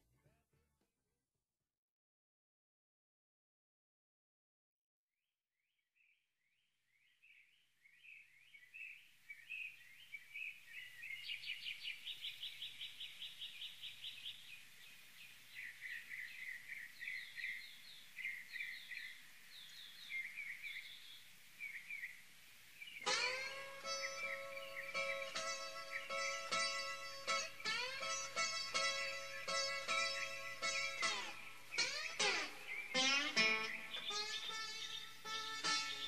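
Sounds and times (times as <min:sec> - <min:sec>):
small birds chirping and trilling: 0:06.0 - 0:36.0.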